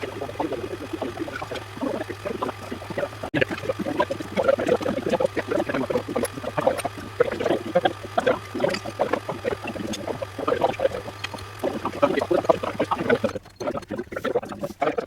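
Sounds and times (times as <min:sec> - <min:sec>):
liquid gurgling and glugging: 0:00.0 - 0:15.0
low steady hum: 0:00.0 - 0:15.0.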